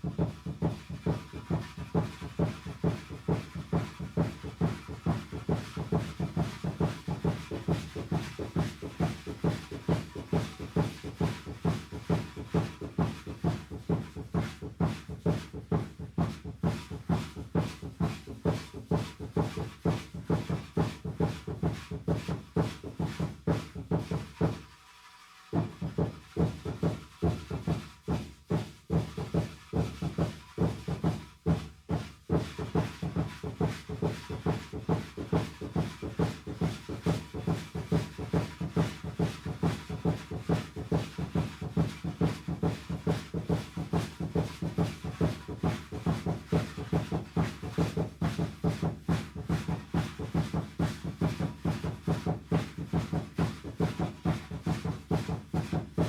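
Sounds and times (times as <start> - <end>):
drum beaten fast: 0.0 - 24.8, 25.5 - 56.0.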